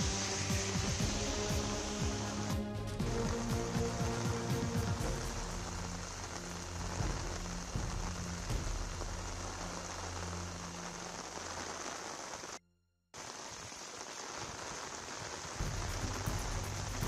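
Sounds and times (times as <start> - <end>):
rain hissing on wet road: 0.0 - 12.6, 13.2 - 17.0.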